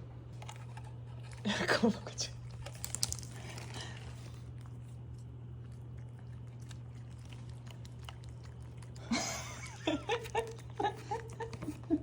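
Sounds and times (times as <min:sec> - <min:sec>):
cat chewing: 0:00.0 - 0:12.0
steady low hum: 0:00.0 - 0:12.0.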